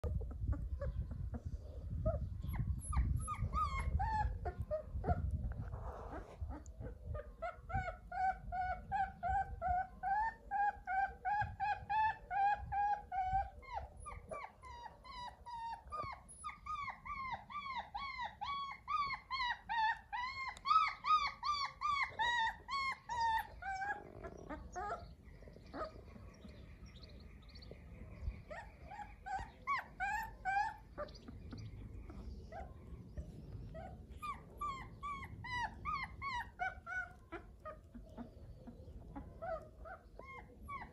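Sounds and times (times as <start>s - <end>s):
puppy whimpering: 0.0s - 40.9s.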